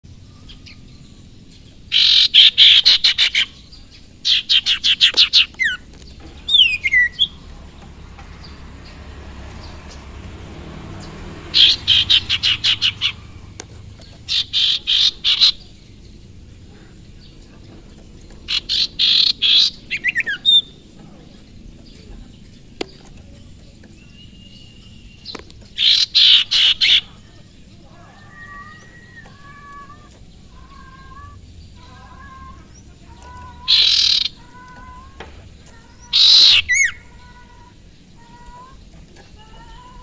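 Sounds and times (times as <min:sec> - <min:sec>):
songbird rapid chatter: 0:00.1 - 0:40.0.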